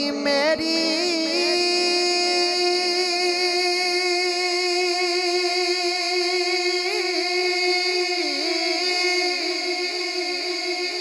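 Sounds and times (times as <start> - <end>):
man singing long note: 0.0 - 11.0.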